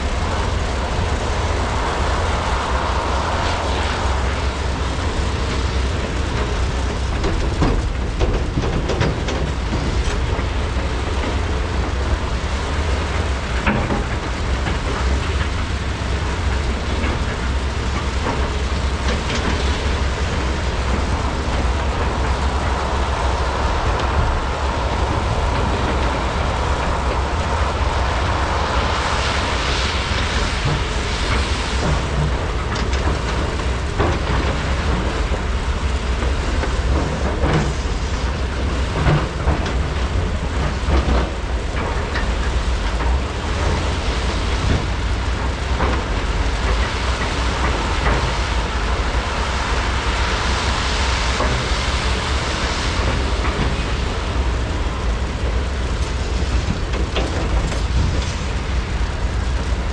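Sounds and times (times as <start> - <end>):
diesel engines running under load: 0.0 - 59.9
rushing hiss: 0.0 - 59.9.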